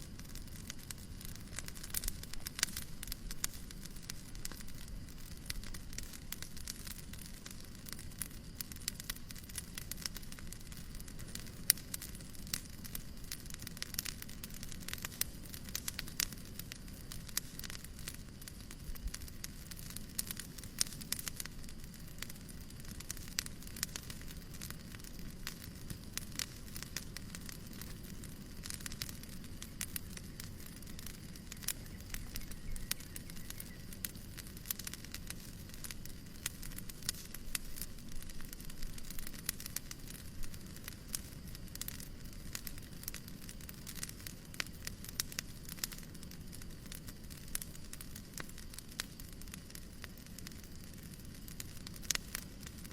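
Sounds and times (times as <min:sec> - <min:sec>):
steady hiss: 0:00.0 - 0:52.9
wood fire crackling: 0:00.0 - 0:52.9.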